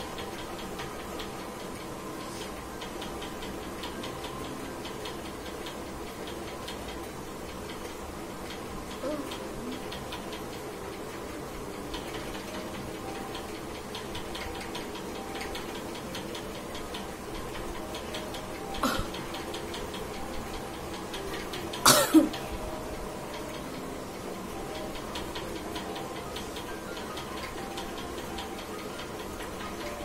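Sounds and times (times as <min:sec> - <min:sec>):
faint steady ticking: 0:00.0 - 0:30.0.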